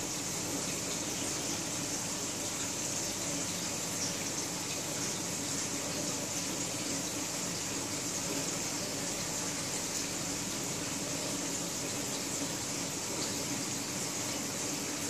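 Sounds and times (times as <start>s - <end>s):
aquarium filter water splashing: 0.0s - 15.0s.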